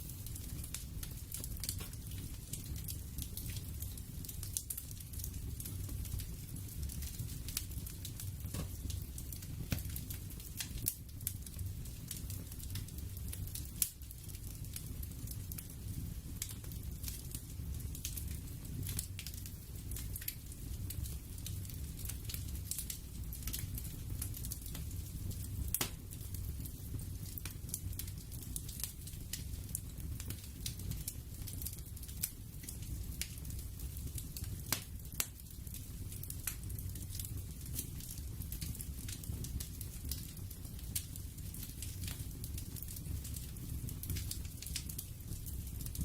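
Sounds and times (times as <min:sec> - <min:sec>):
fire crackling: 0:00.0 - 0:46.0
fire low rumble: 0:00.0 - 0:46.0.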